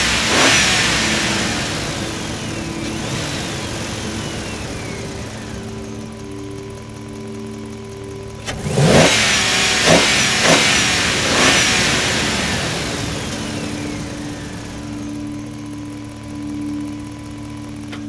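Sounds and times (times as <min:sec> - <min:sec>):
excavator engine revving: 0:00.0 - 0:18.0.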